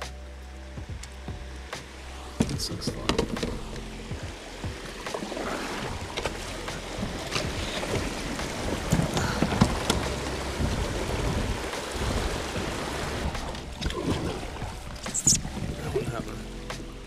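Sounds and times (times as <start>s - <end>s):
water splashing around kayak: 0.0s - 17.0s
wind rumble on microphone: 0.0s - 17.0s.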